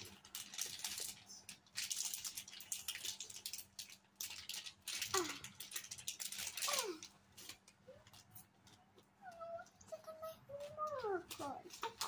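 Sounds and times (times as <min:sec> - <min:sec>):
plastic packet crinkling: 0:00.0 - 0:08.9, 0:10.0 - 0:12.0.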